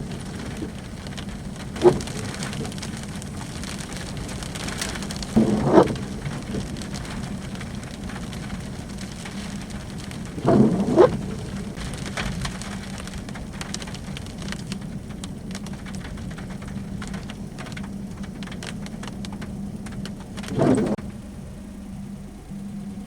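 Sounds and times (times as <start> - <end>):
raindrops ticking on hard surface: 0.0 - 22.9
steady low hum: 0.0 - 23.0.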